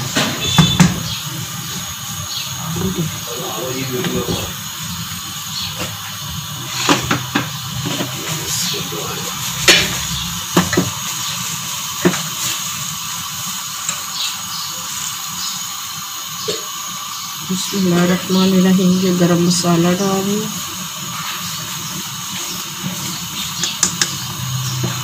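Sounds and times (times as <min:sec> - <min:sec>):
pot simmering with hiss: 0:00.0 - 0:25.0.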